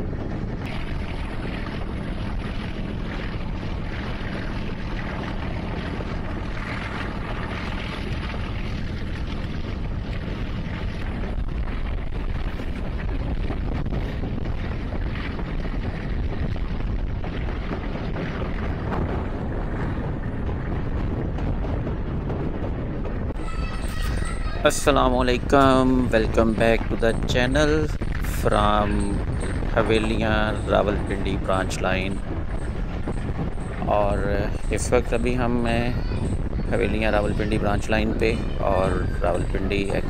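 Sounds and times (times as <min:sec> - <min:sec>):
moving train rumble: 0:00.0 - 0:40.0
wind buffeting microphone: 0:00.0 - 0:40.0.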